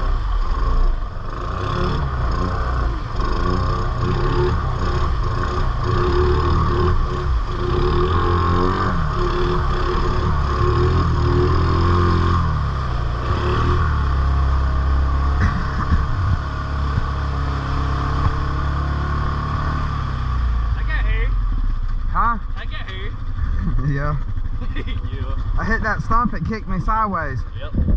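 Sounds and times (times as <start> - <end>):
atv engine revving: 0.0 - 27.9.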